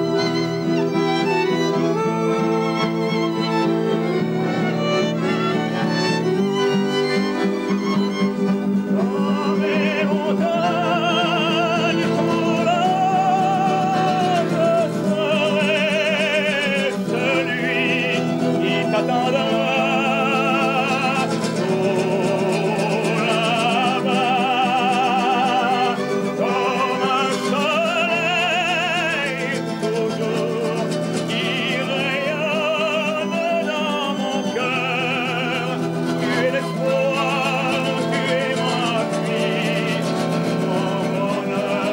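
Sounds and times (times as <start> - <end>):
acoustic guitar: 0.0 - 41.9
man singing with vibrato: 0.0 - 41.9
violin playing: 0.0 - 41.9.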